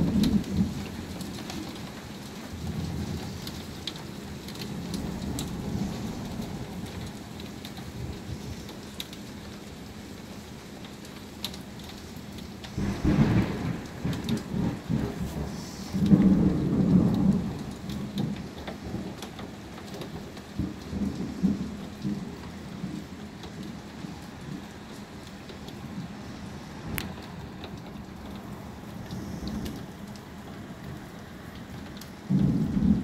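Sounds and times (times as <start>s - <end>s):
thunder rumbling: 0.0s - 1.8s, 2.5s - 8.6s, 12.7s - 33.0s
heavy rain falling: 0.0s - 33.0s
raindrops tapping: 0.0s - 33.0s.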